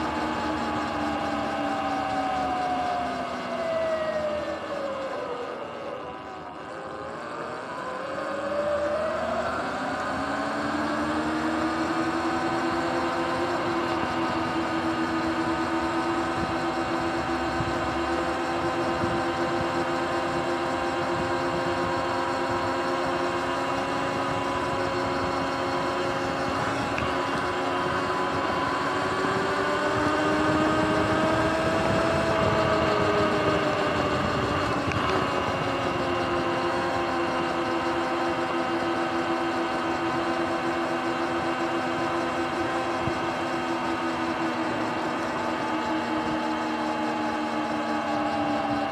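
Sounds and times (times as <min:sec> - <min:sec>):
electric dirt bike motor whining: 0:00.0 - 0:48.9.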